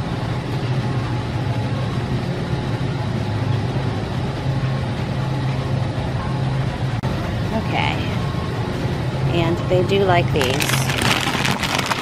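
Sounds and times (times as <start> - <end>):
ventilation rushing noise: 0.0 - 12.0.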